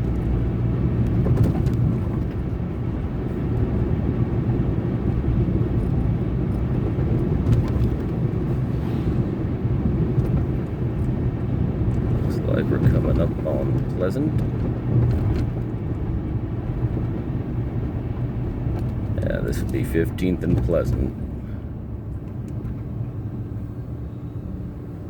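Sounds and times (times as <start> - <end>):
air rushing through windows: 0.0 - 25.0
tyre and engine rumble: 0.0 - 25.0.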